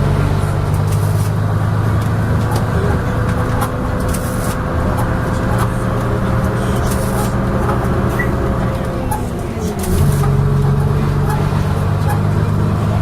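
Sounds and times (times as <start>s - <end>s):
bus engine running: 0.0s - 13.0s
light clanks and rattles: 1.9s - 13.0s.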